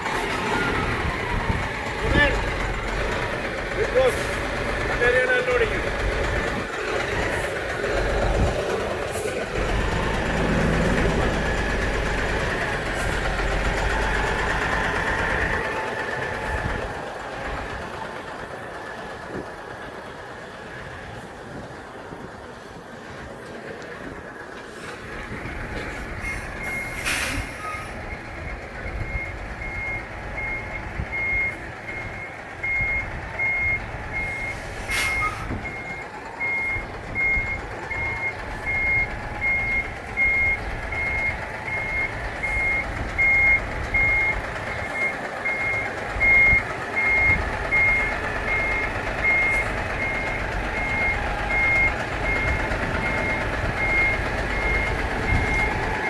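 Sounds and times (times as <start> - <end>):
truck reversing alarm beeping: 0.0 - 19.7, 25.3 - 56.0
diesel engine running: 0.0 - 56.0.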